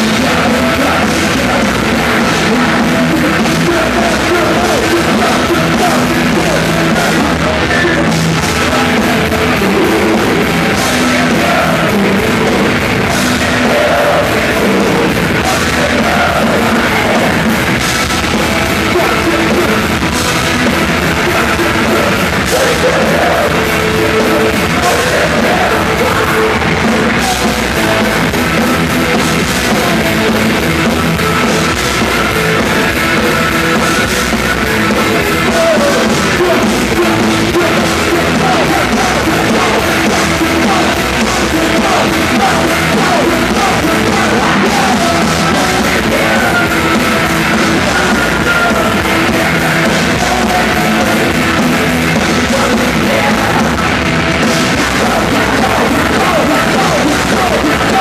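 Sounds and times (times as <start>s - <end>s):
drums: 0.0s - 58.0s
live rock band playing: 0.0s - 58.0s
person singing: 0.0s - 58.0s.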